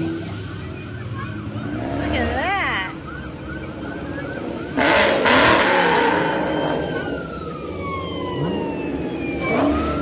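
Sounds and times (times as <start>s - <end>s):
car revving: 0.0s - 10.0s
siren winding down: 0.4s - 10.0s.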